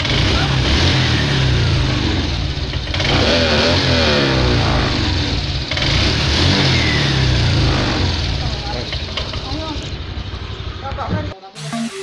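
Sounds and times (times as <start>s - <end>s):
scooter engine revving: 0.0s - 11.1s.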